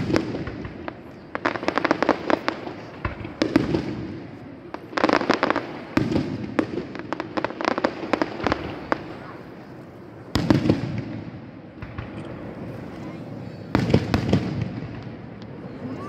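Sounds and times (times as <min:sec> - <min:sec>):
fireworks bursting: 0:00.0 - 0:16.0
fireworks crackling pops: 0:00.0 - 0:16.0.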